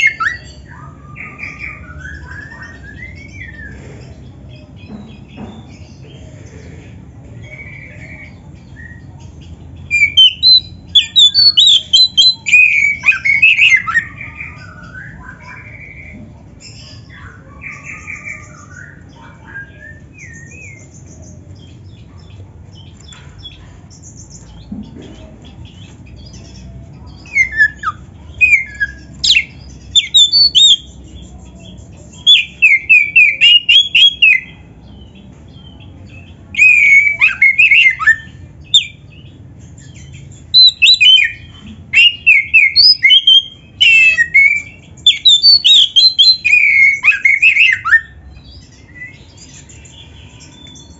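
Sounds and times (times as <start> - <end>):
magpie-robin singing whistled notes: 0.0 - 3.8, 7.4 - 24.7, 25.6 - 50.9.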